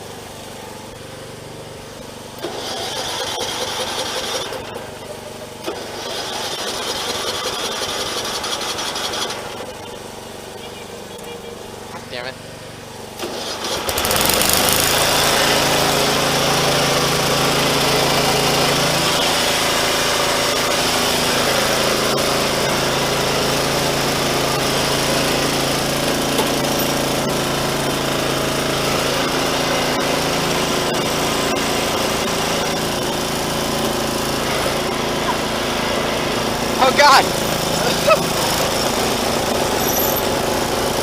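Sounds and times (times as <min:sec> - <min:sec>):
riding lawn mower engine running: 0:00.0 - 0:41.0.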